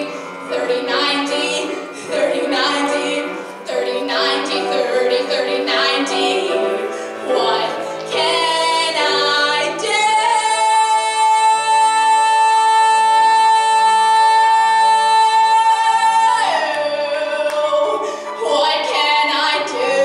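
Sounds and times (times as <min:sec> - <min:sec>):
woman singing: 0:00.0 - 0:20.0.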